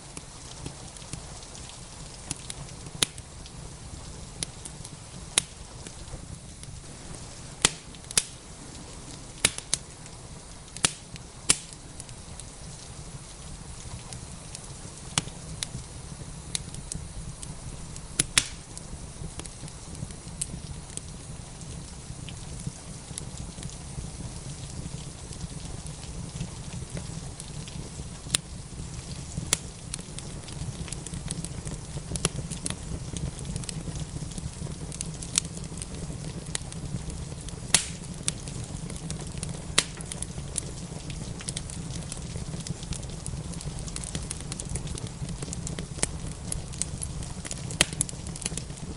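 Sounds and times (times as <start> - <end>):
rain hissing: 0.0 - 48.9
wood fire crackling in a fireplace: 0.0 - 48.9.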